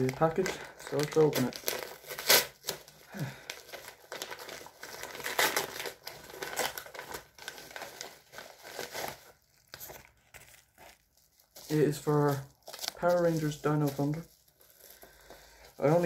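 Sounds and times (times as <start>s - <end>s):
paper envelope crinkling: 0.0s - 16.0s.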